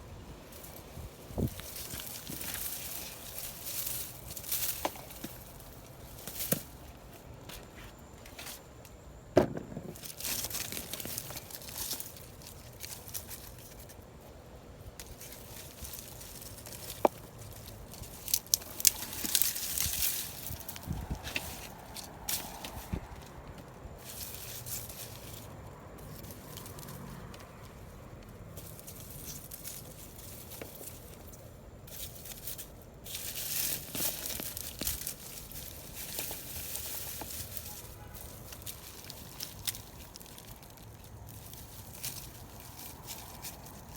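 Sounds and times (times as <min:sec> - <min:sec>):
dry vines rustling and crunching: 0:00.0 - 0:43.9
hands digging through soil: 0:00.4 - 0:08.6, 0:09.8 - 0:43.9.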